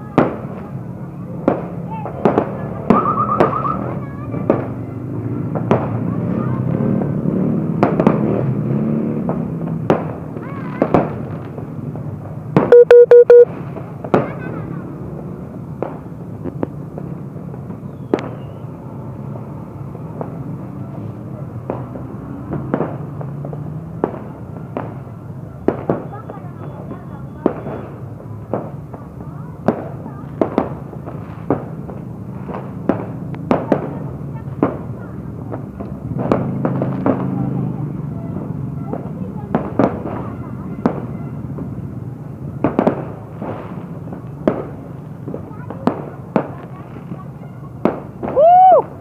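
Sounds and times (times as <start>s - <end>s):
fireworks banging: 0.0s - 49.0s.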